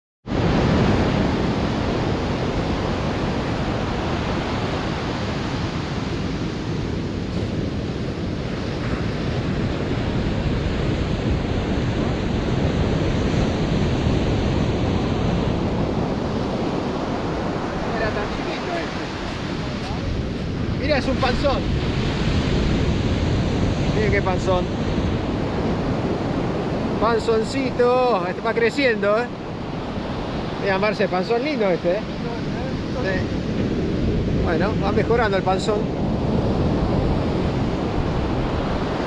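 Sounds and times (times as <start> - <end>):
surf breaking on beach: 0.3 - 39.0.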